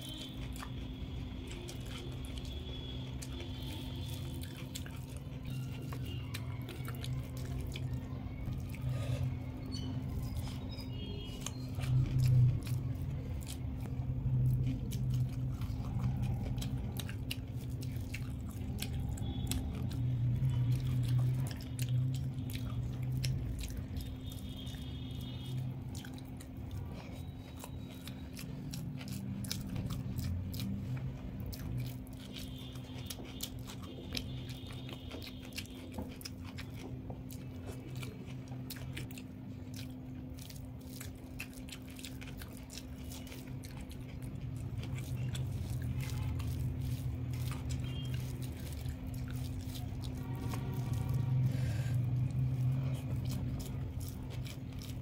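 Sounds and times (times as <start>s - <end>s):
person chewing food: 0.0s - 55.0s
steady low hum: 0.0s - 55.0s.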